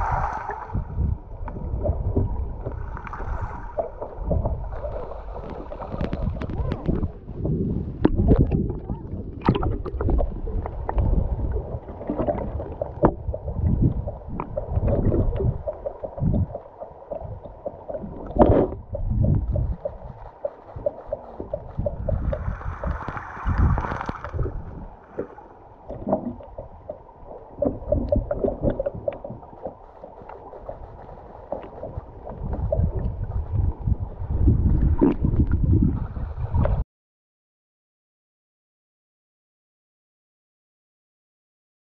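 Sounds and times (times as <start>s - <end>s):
underwater knocks: 0.0s - 30.9s, 31.5s - 36.0s
muffled underwater water gurgling: 0.0s - 36.8s.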